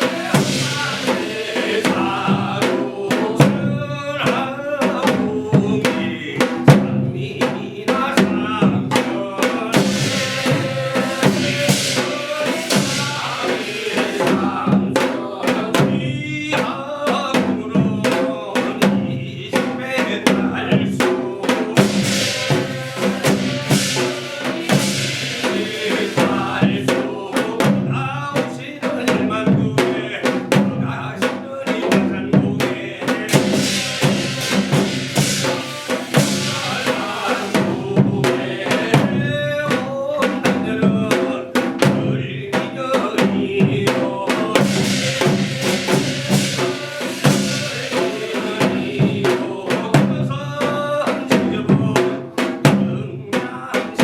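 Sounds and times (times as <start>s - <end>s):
driving drum strokes: 0.0s - 54.0s.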